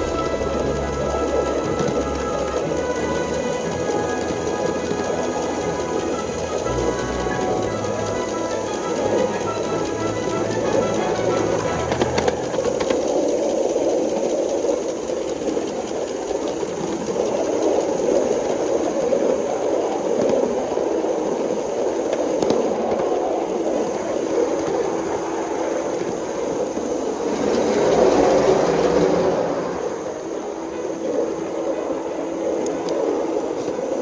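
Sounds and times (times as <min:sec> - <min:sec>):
steam locomotive running: 0:00.0 - 0:34.0.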